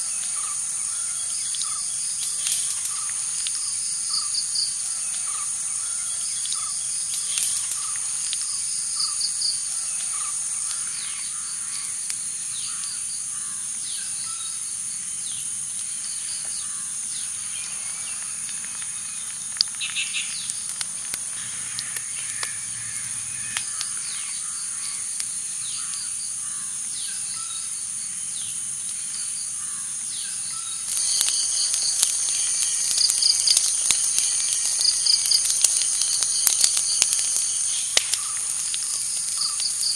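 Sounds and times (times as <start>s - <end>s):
wood fire crackling and popping: 0.0s - 13.0s, 15.1s - 26.1s, 28.7s - 39.9s
insects chirring: 0.0s - 39.9s.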